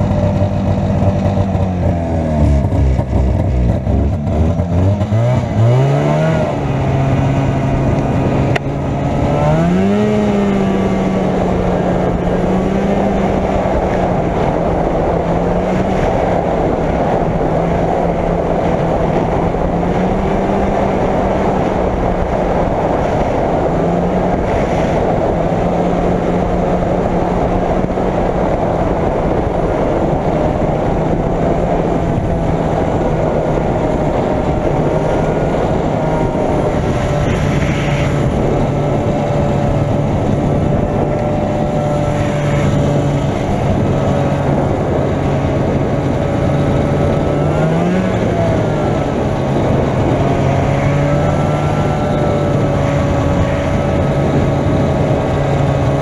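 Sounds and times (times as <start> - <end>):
snowmobile engine pulling away: 0.0 - 56.0.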